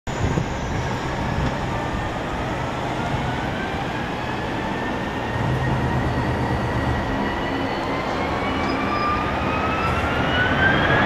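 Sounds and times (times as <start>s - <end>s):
jet engines spooling up: 0.1s - 11.0s.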